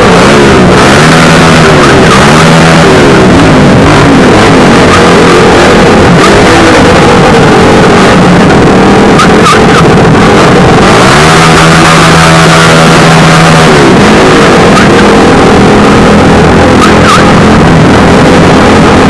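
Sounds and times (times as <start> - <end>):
motorcycle engine revving: 0.0 - 19.0
motorcycle engines running: 0.0 - 19.0.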